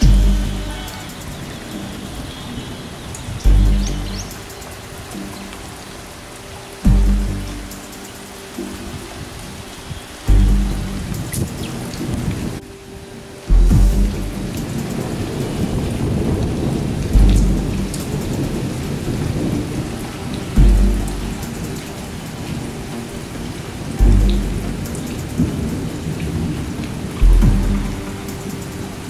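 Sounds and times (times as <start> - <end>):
heavy rain: 0.0 - 29.0.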